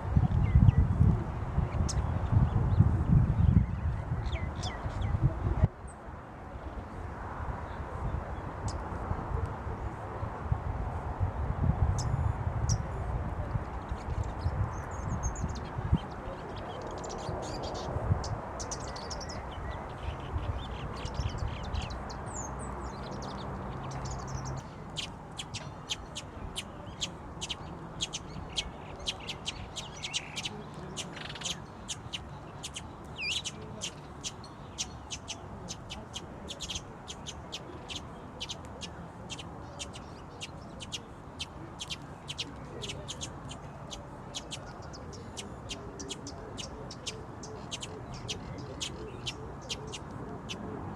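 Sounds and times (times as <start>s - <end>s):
birds chirping: 0.0s - 6.0s, 13.5s - 50.9s.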